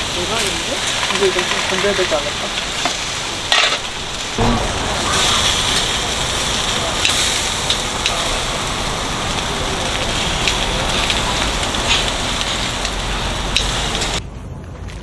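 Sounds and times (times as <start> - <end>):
food sizzling in a pan: 0.0 - 14.2.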